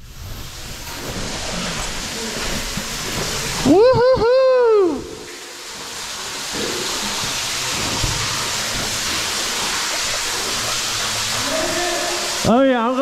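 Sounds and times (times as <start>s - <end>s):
waterfall splashing: 0.1s - 13.0s.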